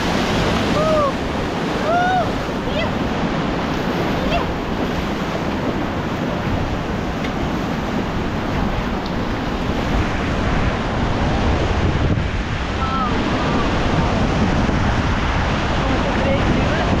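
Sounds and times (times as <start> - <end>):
whitewater rushing: 0.0 - 17.0
wind buffeting microphone: 0.0 - 17.0.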